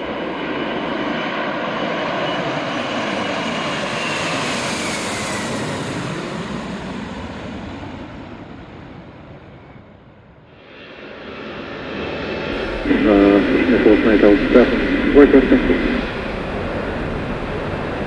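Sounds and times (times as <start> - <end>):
jet aircraft passing by: 0.0 - 18.0.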